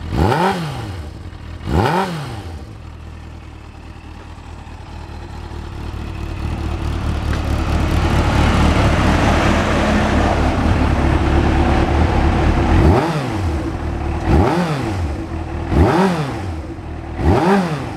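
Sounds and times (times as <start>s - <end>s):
engine throttle blips: 0.0s - 17.9s
motorcycle engine idling: 0.0s - 17.9s.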